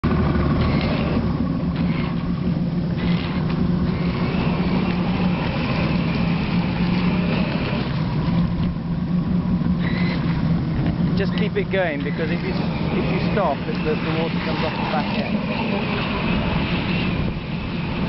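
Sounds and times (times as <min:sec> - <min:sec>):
boat engine drone: 0:00.0 - 0:18.0
high motor whine: 0:00.0 - 0:18.0.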